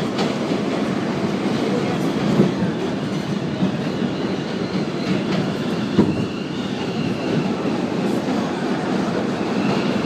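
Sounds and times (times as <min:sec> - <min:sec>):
subway wheels rumbling on rails: 0:00.0 - 0:10.0.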